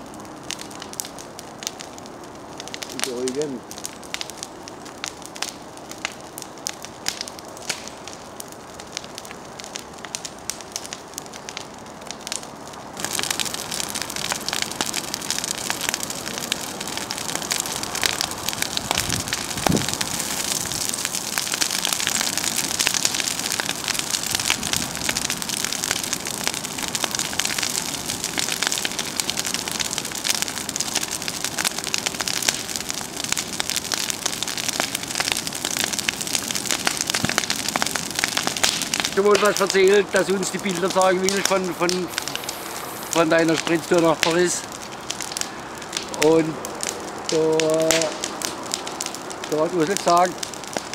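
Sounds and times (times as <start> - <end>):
campfire crackling and popping: 0.0 - 50.9.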